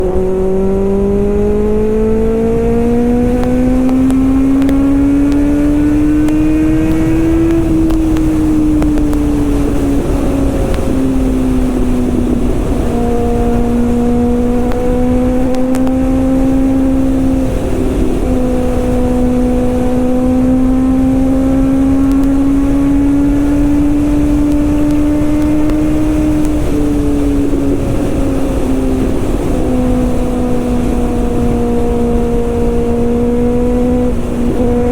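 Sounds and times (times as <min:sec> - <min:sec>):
motorcycle engine and exhaust: 0:00.0 - 0:34.9
wind noise: 0:00.0 - 0:34.9.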